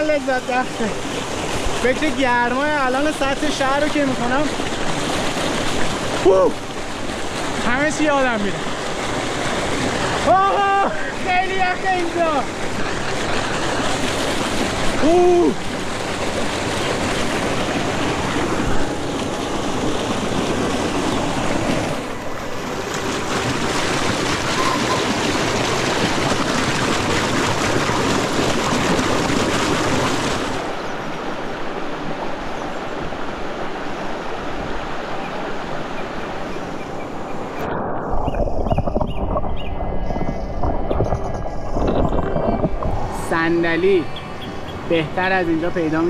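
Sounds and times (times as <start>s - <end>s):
stream rushing over boulders: 0.0s - 46.0s.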